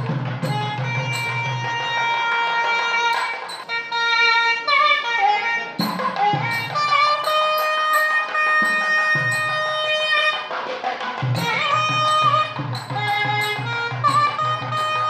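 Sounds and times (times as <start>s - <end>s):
drum strokes: 0.0s - 4.0s, 5.7s - 15.0s
reed instrument melody: 0.0s - 15.0s.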